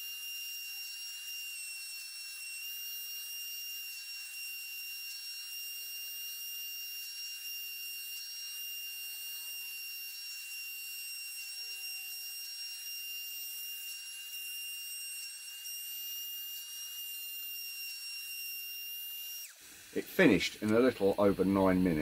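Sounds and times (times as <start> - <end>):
spindle motor high-pitched whine: 0.0 - 22.0.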